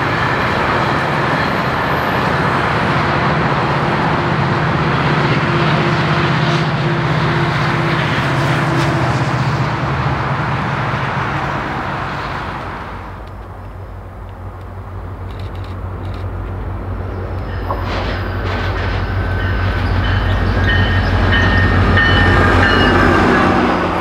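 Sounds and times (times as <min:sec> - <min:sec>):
diesel train engine drone: 0:00.0 - 0:24.0.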